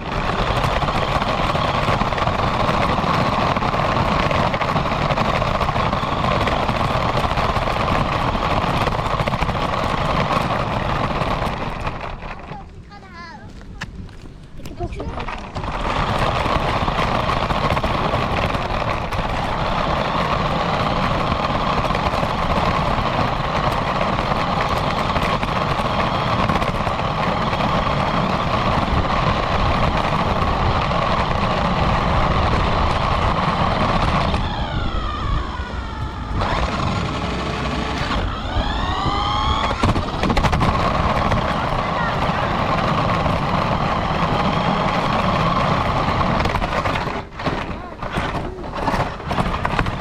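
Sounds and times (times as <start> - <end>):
rc car motor running: 0.0 - 13.1, 14.6 - 50.0
road noise: 0.0 - 50.0.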